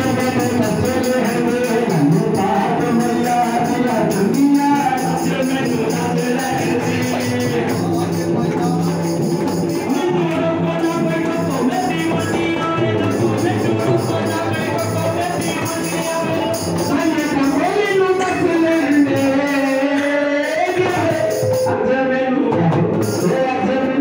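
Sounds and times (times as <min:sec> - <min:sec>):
hand drum playing: 0:00.0 - 0:21.8
person singing: 0:00.0 - 0:24.0.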